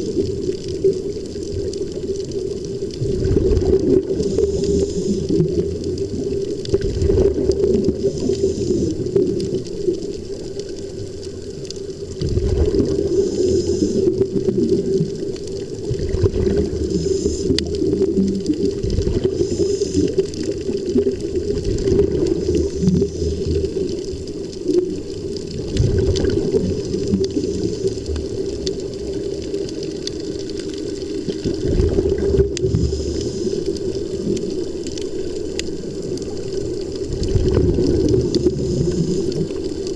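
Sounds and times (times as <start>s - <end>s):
underwater bubbling and rushing air: 0.0s - 39.9s.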